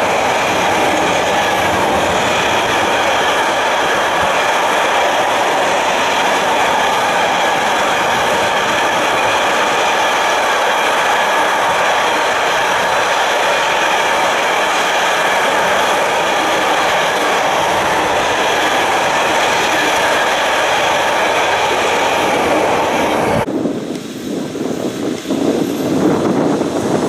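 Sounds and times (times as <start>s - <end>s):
freight train rolling past: 0.0s - 27.0s
wheels clickety-clack on rail joints: 0.0s - 27.0s.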